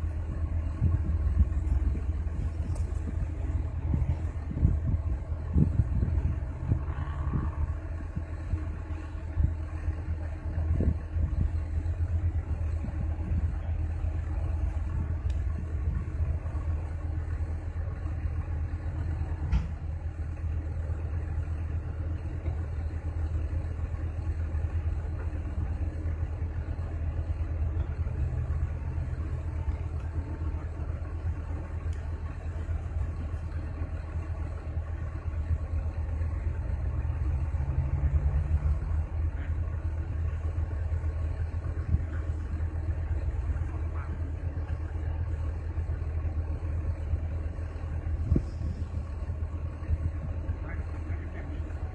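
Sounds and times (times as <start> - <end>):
heavy diesel engine rumbling: 0.0 - 51.9.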